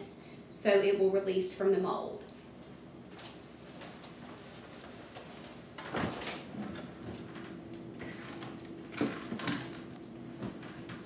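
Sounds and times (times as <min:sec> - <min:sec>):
faint refrigerator hum: 0:00.0 - 0:11.0.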